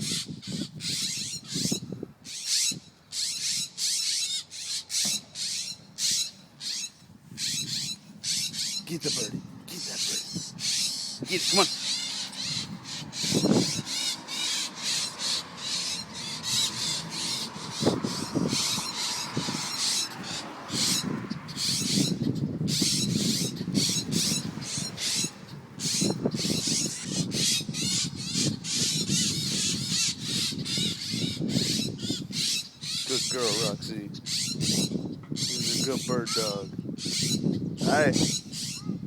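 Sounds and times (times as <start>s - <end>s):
birds giving alarm calls: 0.0s - 39.0s.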